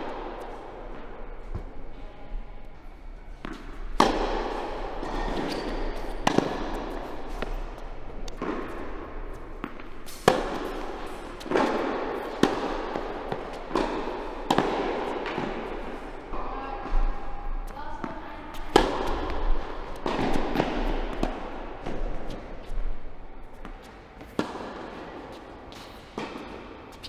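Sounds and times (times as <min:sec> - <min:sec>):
tennis balls bouncing on court: 0:03.3 - 0:27.0
tennis balls struck by rackets: 0:03.3 - 0:27.0.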